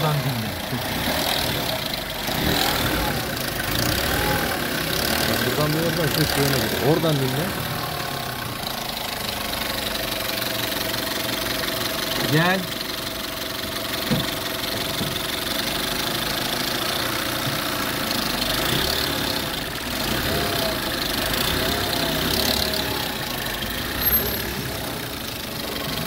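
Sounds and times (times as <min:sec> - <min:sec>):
petrol engine idling: 0:00.0 - 0:26.0.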